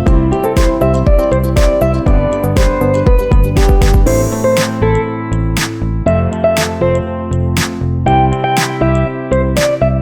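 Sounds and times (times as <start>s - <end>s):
electronic music with steady beat: 0.0s - 5.9s, 6.5s - 7.0s, 7.6s - 9.0s, 9.6s - 9.9s.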